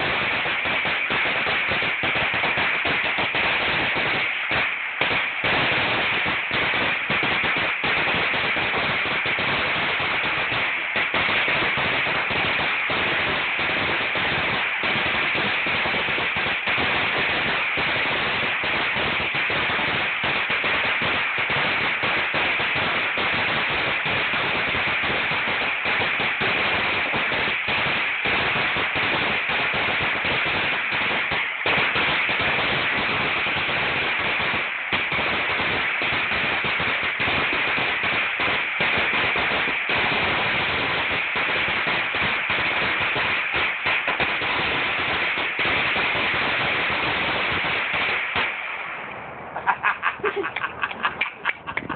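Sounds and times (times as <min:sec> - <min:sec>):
string of firecrackers banging: 0:00.0 - 0:51.9.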